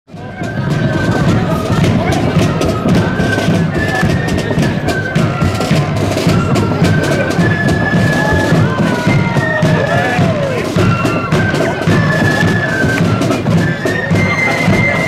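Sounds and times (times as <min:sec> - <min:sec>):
flutes playing a tune: 0:00.1 - 0:15.0
side drums and bass drum: 0:00.1 - 0:15.0.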